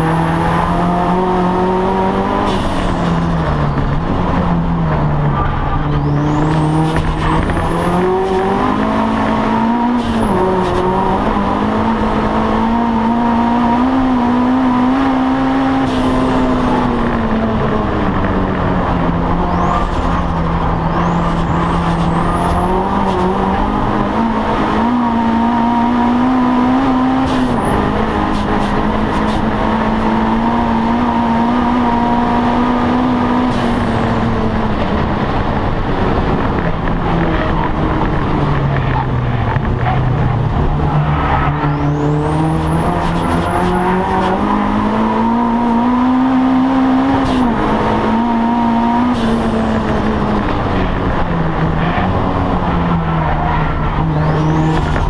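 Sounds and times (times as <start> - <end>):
race car engine revving through gears: 0.0 - 55.0.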